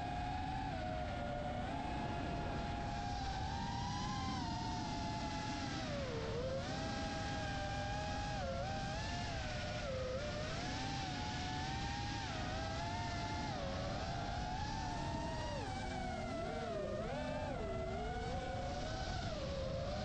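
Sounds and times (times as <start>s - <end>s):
electric motor and propeller whine: 0.0s - 20.0s.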